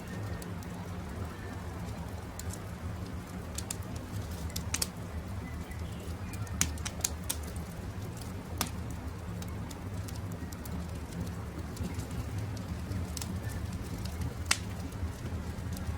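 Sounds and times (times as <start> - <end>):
campfire crackling and popping: 0.0 - 15.9.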